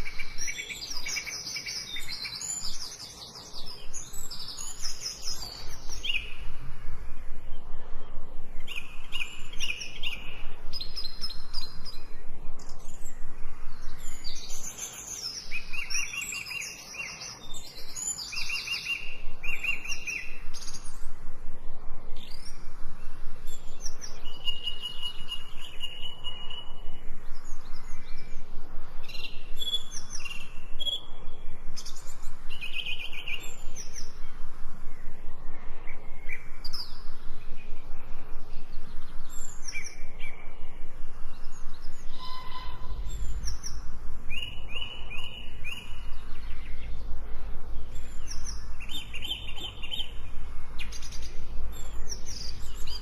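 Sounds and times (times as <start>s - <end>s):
birds chirping and singing: 0.0s - 21.2s, 22.0s - 53.0s.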